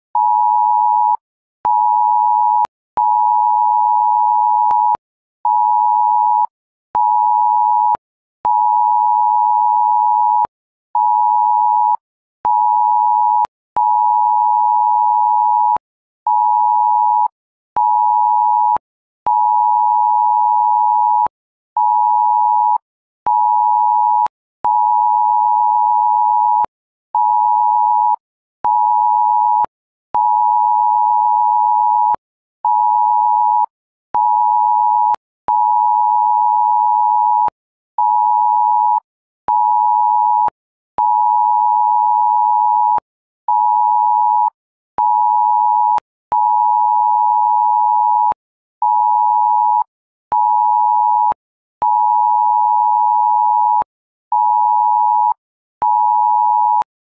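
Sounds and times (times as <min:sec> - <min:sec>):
phone emergency alert beeps: 0:00.2 - 0:56.9.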